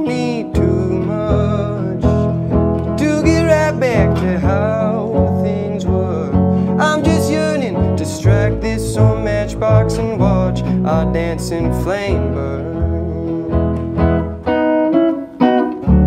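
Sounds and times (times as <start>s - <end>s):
person singing: 0.0s - 14.6s
strummed guitar: 0.0s - 16.0s
plucked double bass: 0.4s - 14.7s, 15.7s - 16.0s.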